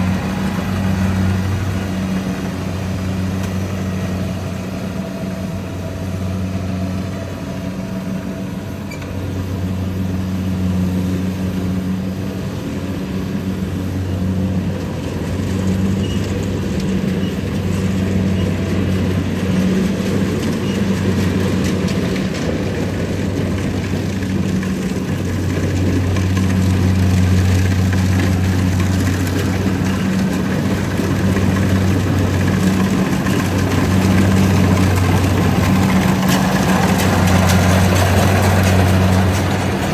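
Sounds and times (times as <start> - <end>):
diesel engine under load: 0.0 - 39.9
harvester machinery rattling: 0.0 - 39.9.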